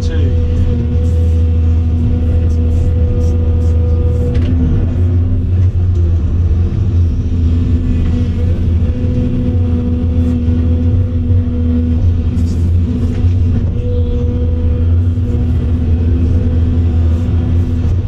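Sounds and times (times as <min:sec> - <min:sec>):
excavator engine drone: 0:00.0 - 0:18.0
higher steady hum: 0:00.0 - 0:18.0.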